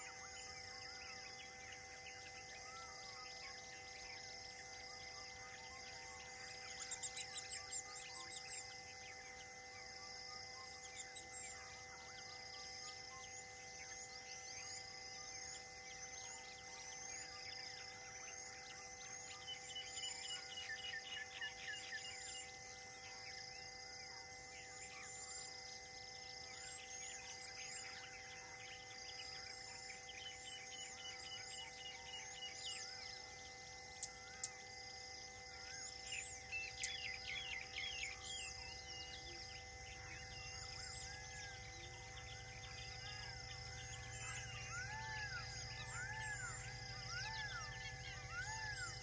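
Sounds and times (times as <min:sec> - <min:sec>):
steady high hum: 0:00.0 - 0:49.0
wild birds chirping and calling: 0:00.0 - 0:49.0.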